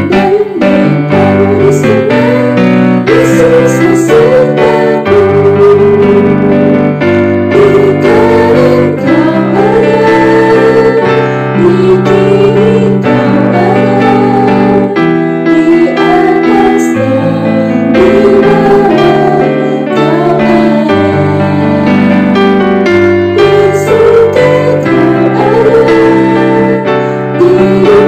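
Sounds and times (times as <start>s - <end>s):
sustained keyboard chords: 0.0s - 28.0s
wavering melody line: 0.0s - 28.0s.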